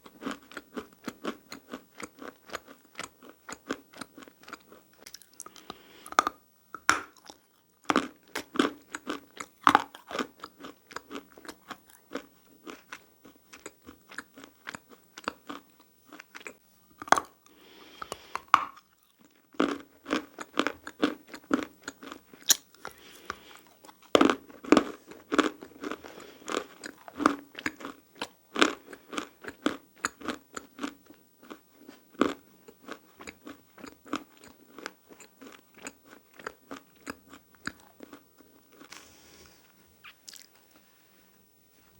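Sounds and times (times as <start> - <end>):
chewing crunchy clay: 0.0 - 17.5, 18.1 - 39.0.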